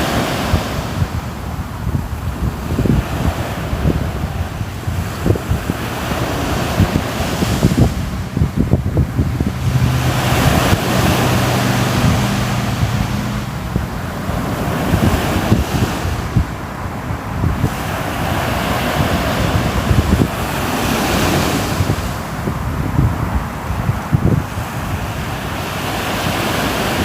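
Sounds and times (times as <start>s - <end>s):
sea waves washing in: 0.0s - 27.0s
wind buffeting microphone: 0.0s - 27.0s.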